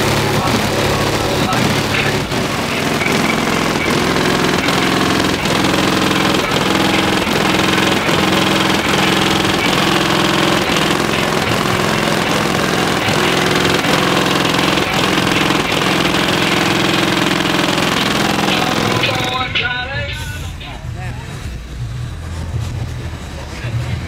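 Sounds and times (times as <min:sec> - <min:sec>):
distorted bass-heavy music: 0:00.0 - 0:24.0.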